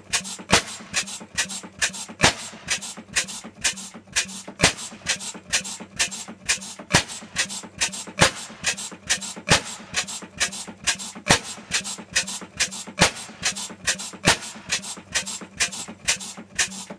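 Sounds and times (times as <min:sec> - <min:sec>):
stationary engine clicking rhythm: 0:00.0 - 0:16.9.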